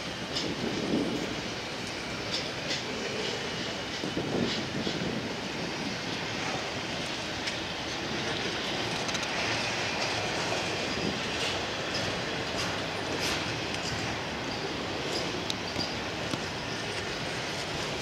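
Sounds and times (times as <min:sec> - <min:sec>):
freight train wheels rumbling: 0:00.0 - 0:18.0
wheels clicking on track: 0:00.0 - 0:18.0.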